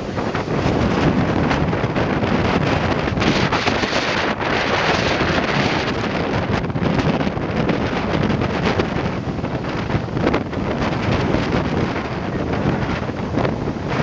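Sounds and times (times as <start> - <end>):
heavy surf breaking on beach: 0.0 - 14.0
strong wind buffeting microphone: 0.0 - 14.0.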